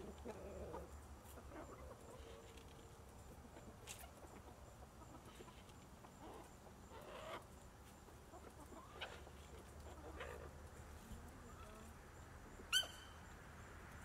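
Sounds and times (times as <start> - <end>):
chicken calls: 0.0 - 13.4
chickens clucking: 0.0 - 13.4.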